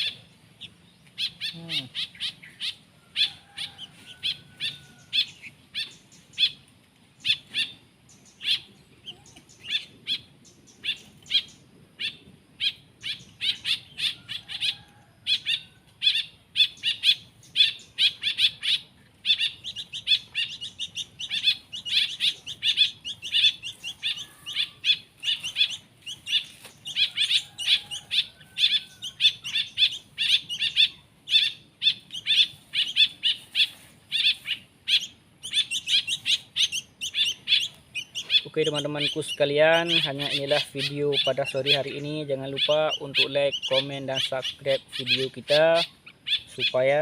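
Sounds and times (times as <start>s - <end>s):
songbird chicks chirping: 0.0s - 47.0s.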